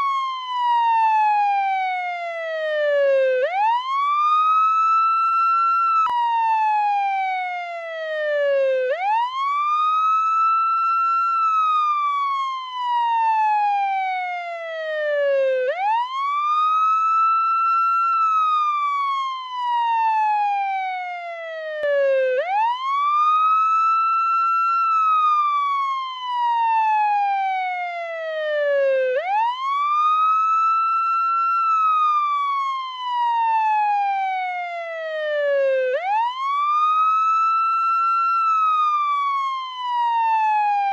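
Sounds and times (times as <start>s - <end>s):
ambulance siren wailing: 0.0s - 40.9s.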